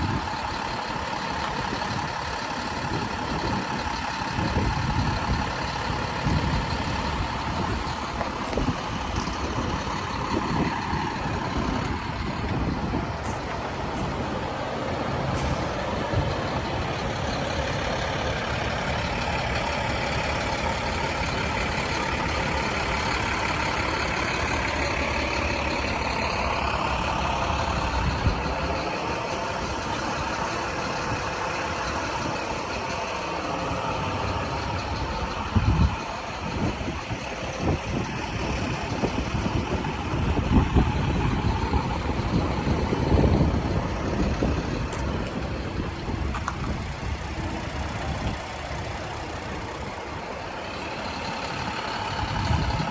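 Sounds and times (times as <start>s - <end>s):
pickup truck engine running: 0.0s - 52.9s
low rumbles and thumps: 2.8s - 49.0s.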